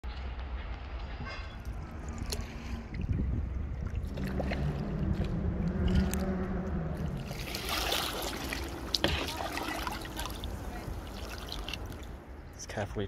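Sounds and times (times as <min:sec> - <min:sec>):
low hum: 0:01.1 - 0:12.6
low rumble: 0:01.1 - 0:12.6
water lapping and splashing: 0:01.6 - 0:12.4.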